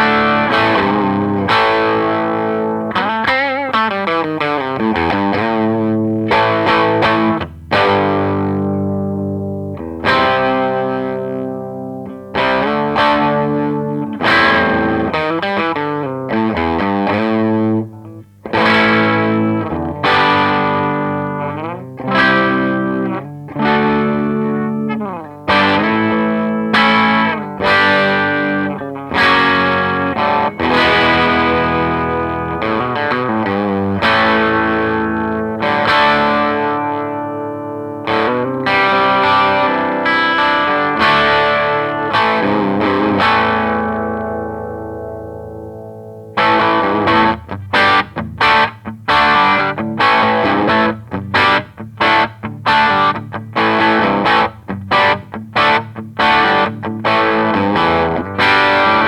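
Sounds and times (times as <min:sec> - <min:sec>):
distorted electric guitar chords: 0:00.0 - 0:59.0.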